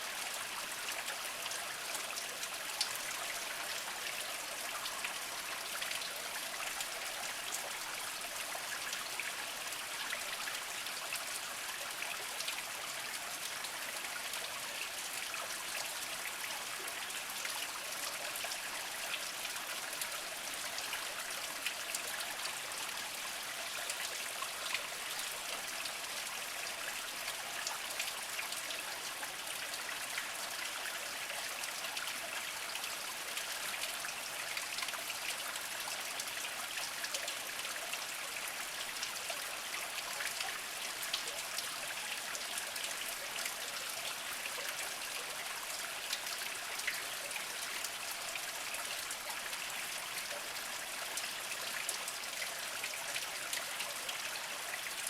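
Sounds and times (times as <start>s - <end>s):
water trickling over rocks: 0.0s - 55.0s.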